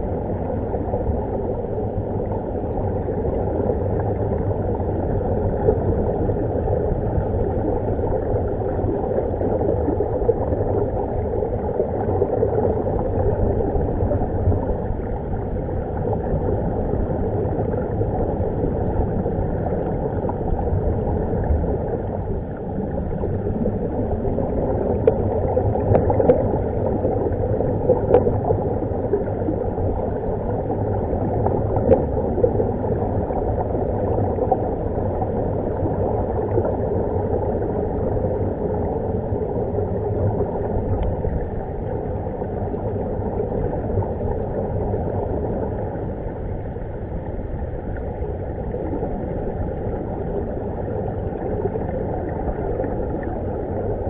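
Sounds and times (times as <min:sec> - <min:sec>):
underwater air bubbles gurgling: 0:00.0 - 0:54.0.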